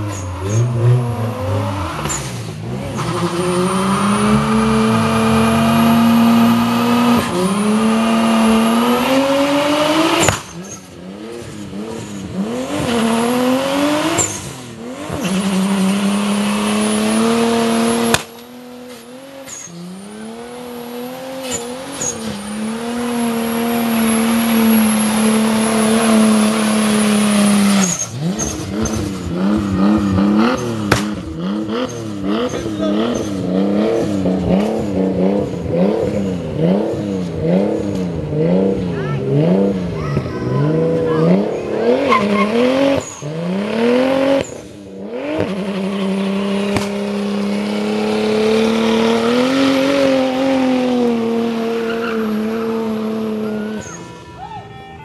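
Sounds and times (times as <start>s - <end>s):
tyres spinning and squealing: 0.0s - 18.0s, 18.7s - 34.9s, 39.0s - 44.7s, 45.4s - 55.0s
car engine revving high: 0.0s - 54.2s.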